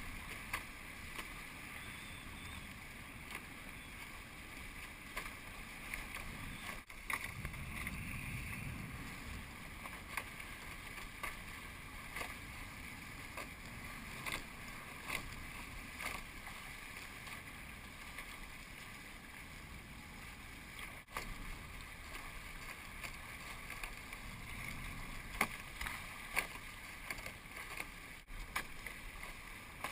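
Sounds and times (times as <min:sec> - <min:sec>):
water rushing against hulls: 0:00.0 - 0:29.9.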